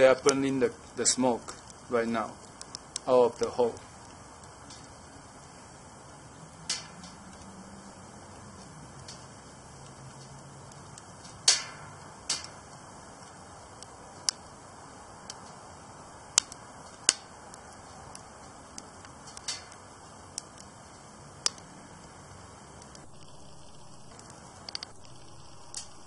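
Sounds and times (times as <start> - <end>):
fire low hiss: 0.0 - 26.0
wood fire crackling and popping: 0.0 - 26.0.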